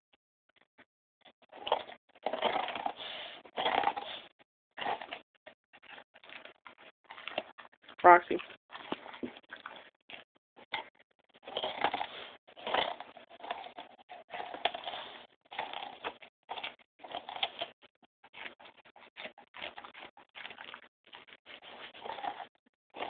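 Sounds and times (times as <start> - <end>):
dog crunching pumpkin: 1.5 - 5.2, 5.8 - 23.0.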